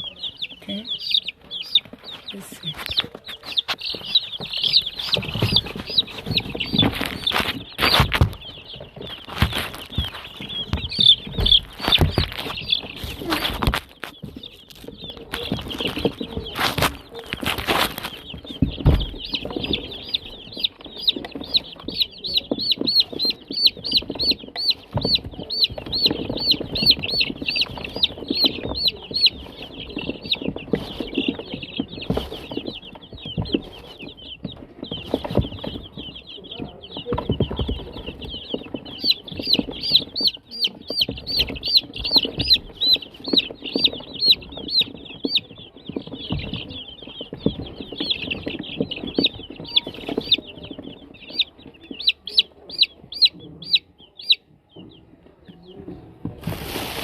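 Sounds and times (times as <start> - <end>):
chicks peeping: 0.0 - 57.0
handling knocks and rustles: 1.6 - 52.4, 54.8 - 57.0.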